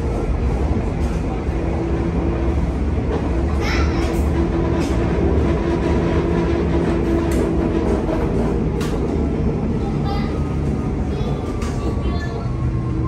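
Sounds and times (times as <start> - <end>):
tram wheels rumbling on rail: 0.0 - 13.0.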